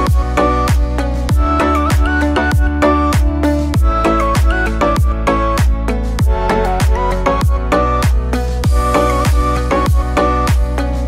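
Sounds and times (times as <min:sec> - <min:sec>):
upbeat music with kick drum: 0:00.0 - 0:11.0.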